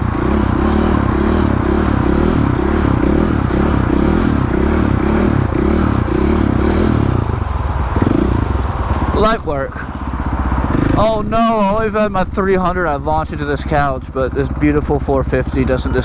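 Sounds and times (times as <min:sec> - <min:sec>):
dirt bike engine under throttle: 0:00.0 - 0:16.0.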